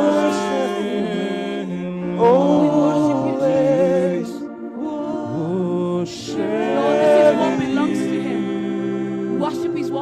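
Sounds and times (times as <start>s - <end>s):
worship team singing: 0.0s - 10.0s.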